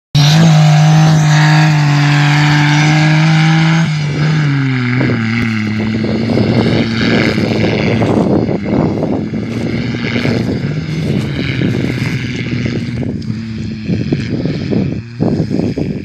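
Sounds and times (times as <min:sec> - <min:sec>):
engine running at high revs: 0:00.2 - 0:16.0
rough gusty noise: 0:00.2 - 0:16.0.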